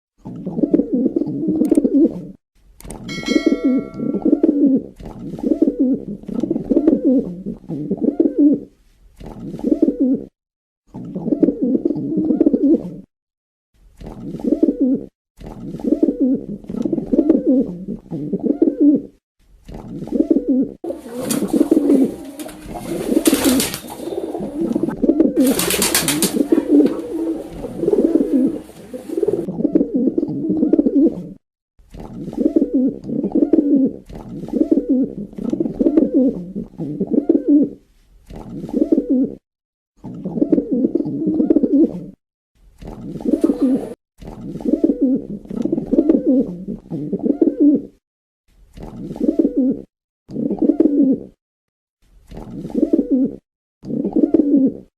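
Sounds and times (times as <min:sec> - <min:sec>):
pigeon cooing: 0:00.2 - 0:02.4, 0:03.2 - 0:08.7, 0:09.6 - 0:10.3, 0:11.0 - 0:13.1, 0:14.4 - 0:15.1, 0:15.8 - 0:19.2, 0:19.8 - 0:31.4, 0:32.1 - 0:37.8, 0:38.4 - 0:39.4, 0:40.0 - 0:42.2, 0:43.0 - 0:48.0, 0:48.9 - 0:51.4, 0:52.4 - 0:54.9.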